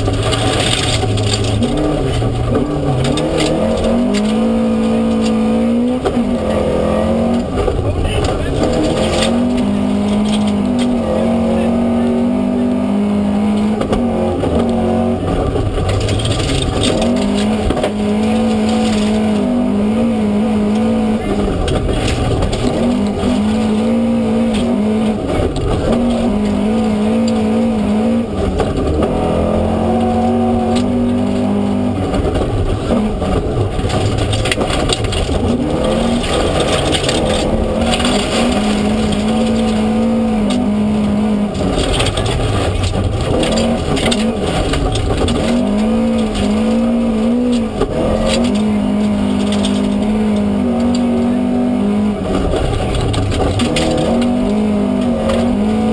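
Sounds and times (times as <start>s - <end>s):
gravel crackling under tyres: 0.0s - 55.9s
rally car engine revving: 0.0s - 55.9s.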